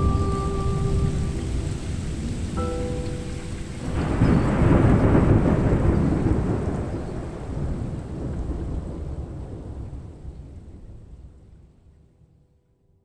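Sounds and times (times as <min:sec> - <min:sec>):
rolling thunder: 0:00.0 - 0:12.0.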